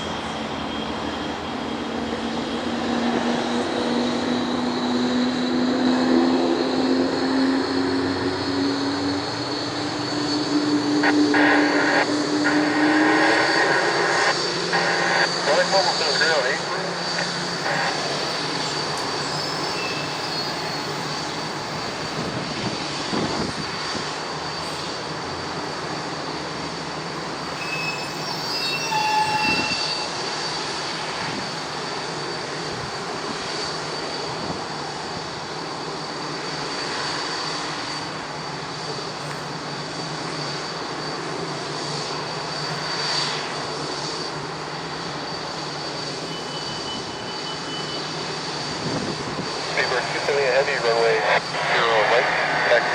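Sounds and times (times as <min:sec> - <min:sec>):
jet engines idling with whine: 0:00.0 - 0:52.9.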